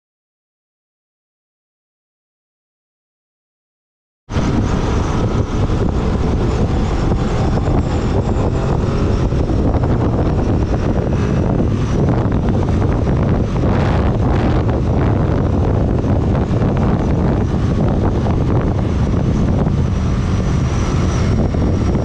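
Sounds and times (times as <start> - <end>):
wind noise on microphone: 4.3 - 22.0.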